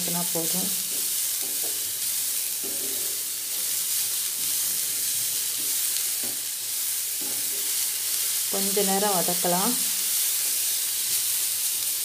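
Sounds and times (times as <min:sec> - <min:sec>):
beetroot sizzling in a pan: 0:00.0 - 0:12.0.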